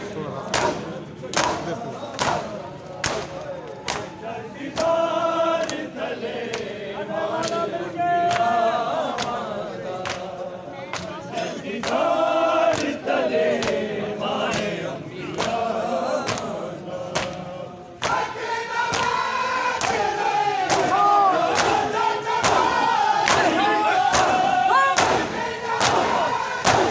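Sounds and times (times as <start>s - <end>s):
crowd chanting a lament: 0.0s - 26.9s.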